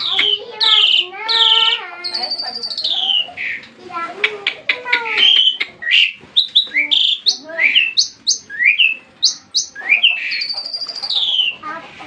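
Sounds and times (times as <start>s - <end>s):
songbird singing whistled notes: 0.0s - 3.6s, 5.2s - 11.6s.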